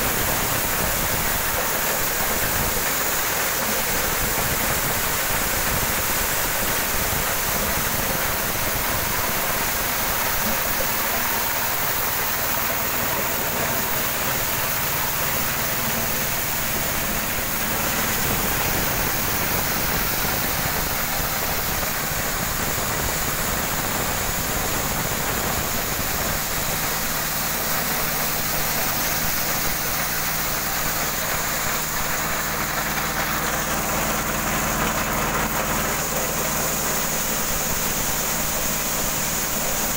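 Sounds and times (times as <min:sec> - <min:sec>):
corn sheller engine running: 0:00.0 - 0:39.9.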